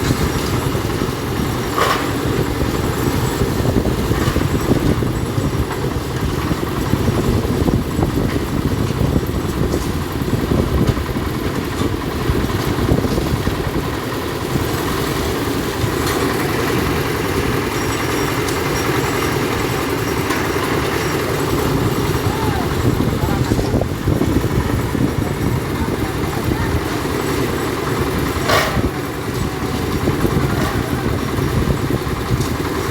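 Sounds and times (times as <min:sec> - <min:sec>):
concrete mixer engine running: 0:00.0 - 0:32.9.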